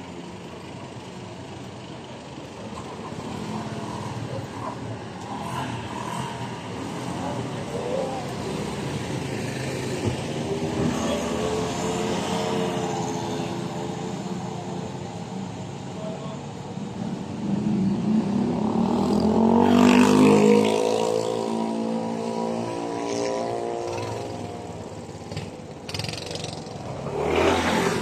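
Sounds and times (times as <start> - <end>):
motor scooters passing: 0.0 - 15.9, 16.5 - 28.0.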